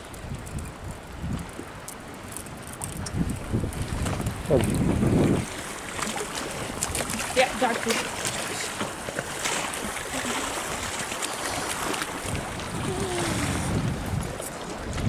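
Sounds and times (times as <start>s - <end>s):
sea washing against stone wall: 0.0s - 15.0s
wind buffeting microphone: 0.0s - 15.0s.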